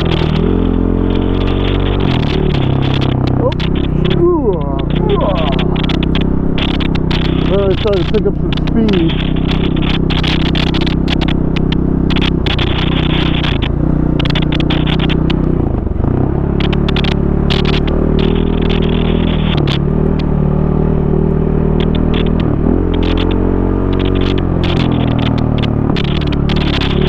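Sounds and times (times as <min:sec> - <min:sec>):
tyres clattering over rough ground: 0:00.0 - 0:20.7, 0:21.6 - 0:27.0
dirt bike engine: 0:00.0 - 0:27.0.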